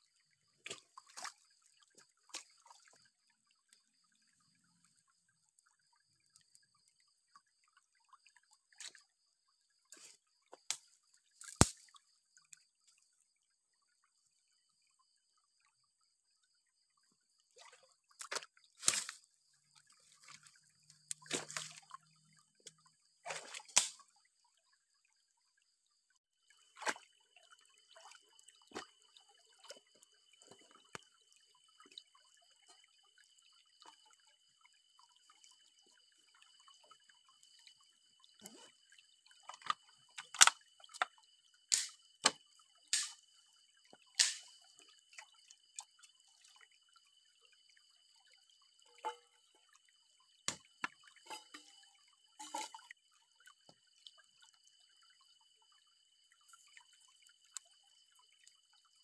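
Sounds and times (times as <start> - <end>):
water drips and splashes: 0.0 - 59.0.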